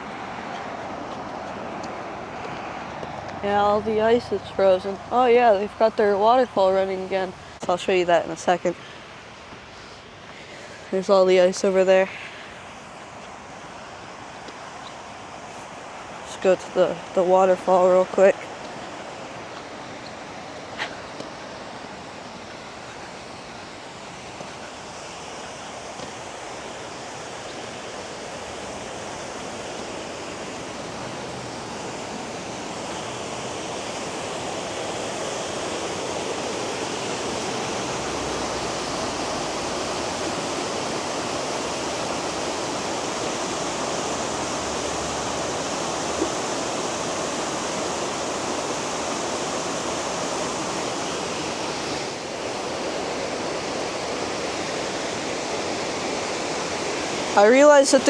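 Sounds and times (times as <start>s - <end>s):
waterfall rushing: 10.5s - 58.0s.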